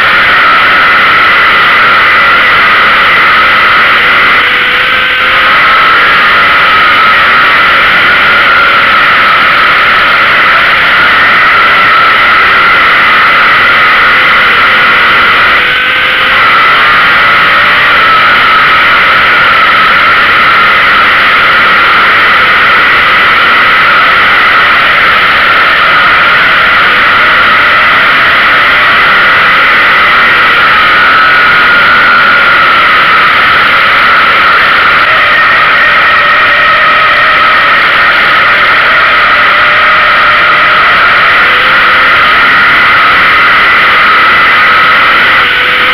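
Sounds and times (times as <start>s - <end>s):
race car engine at high revs: 0.0s - 45.9s.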